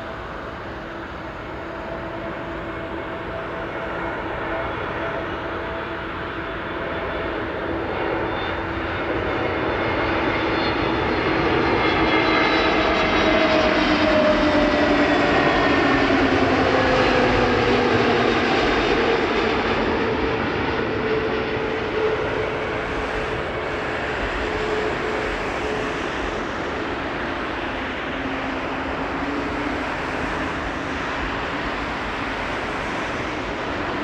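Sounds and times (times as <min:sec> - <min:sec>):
jet airliner flying past: 0:00.0 - 0:34.0.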